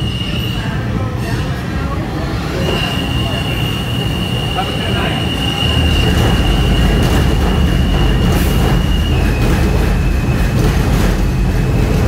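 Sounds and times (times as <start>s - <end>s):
subway train high whine: 0.0s - 12.0s
subway train low rumble: 0.0s - 12.0s.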